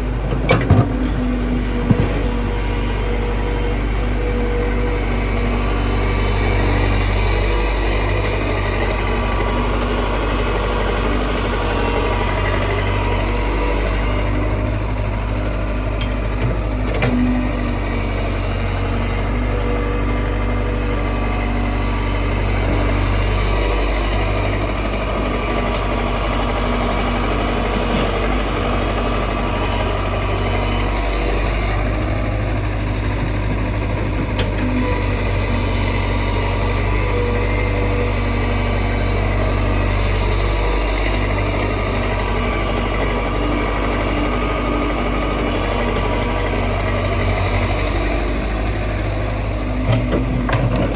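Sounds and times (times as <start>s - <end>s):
backhoe diesel engine running: 0.0s - 50.9s.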